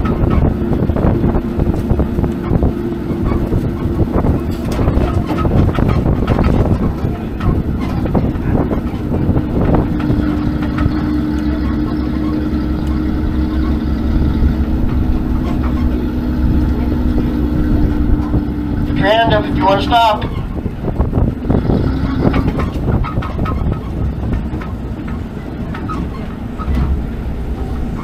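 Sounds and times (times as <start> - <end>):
steady hum: 0.0 - 28.0
tram motor and wheels rumbling: 0.0 - 28.0.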